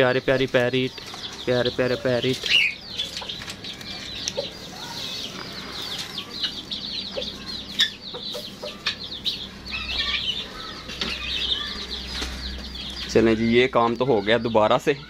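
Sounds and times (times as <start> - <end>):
chickens clucking: 0.0 - 15.0
parrots chirping chatter: 0.0 - 15.0.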